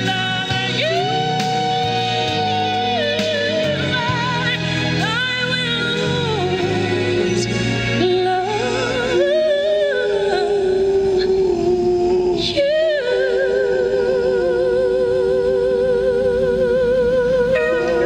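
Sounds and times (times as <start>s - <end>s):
man singing with vibrato: 0.0s - 18.0s.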